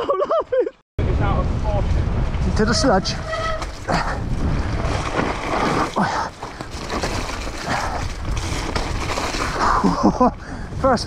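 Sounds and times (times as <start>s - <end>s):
wind buffeting microphone: 1.0s - 11.0s
bike tyres on mud: 1.1s - 11.0s.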